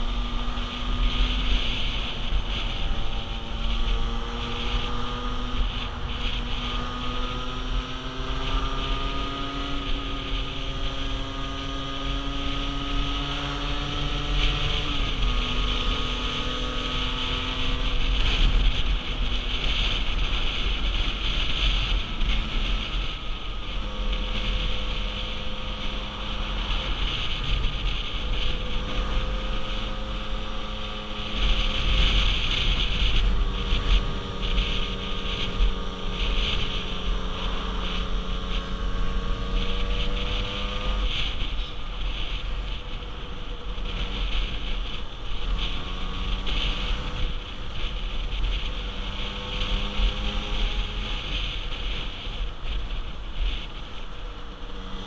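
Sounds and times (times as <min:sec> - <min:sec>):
motorbike engine running: 0:00.0 - 0:55.0
wind buffeting microphone: 0:00.0 - 0:55.0.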